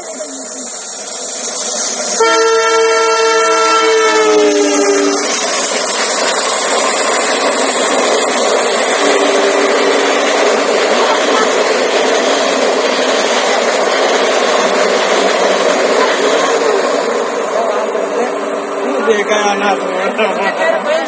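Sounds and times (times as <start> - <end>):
train coaches rushing past: 0.0 - 21.0.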